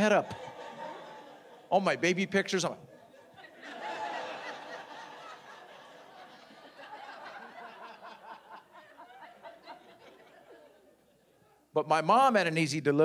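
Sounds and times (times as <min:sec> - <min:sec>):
audience laughing: 0:00.0 - 0:11.4.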